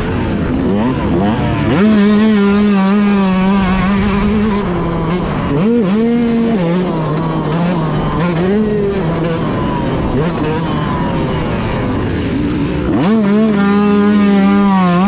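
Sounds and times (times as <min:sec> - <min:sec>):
motocross bike engine: 0:00.0 - 0:15.0.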